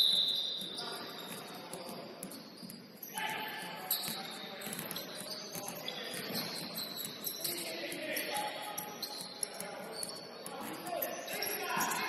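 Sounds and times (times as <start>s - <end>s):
shoe squeaks on court: 0.0s - 12.0s.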